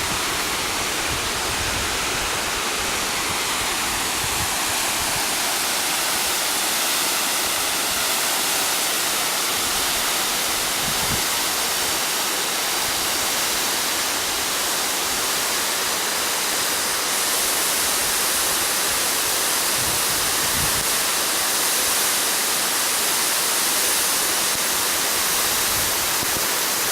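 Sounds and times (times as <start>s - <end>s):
waterfall pouring: 0.0s - 26.9s.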